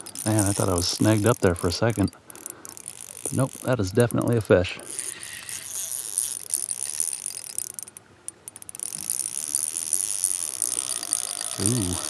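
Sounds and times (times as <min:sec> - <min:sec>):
fishing reel clicking: 0:00.0 - 0:12.0.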